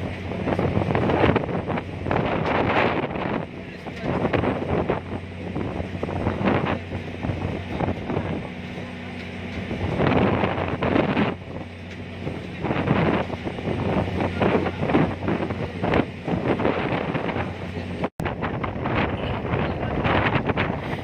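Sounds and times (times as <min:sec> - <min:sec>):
ferry engine droning: 0:00.0 - 0:21.0
wind buffeting microphone: 0:00.0 - 0:21.0.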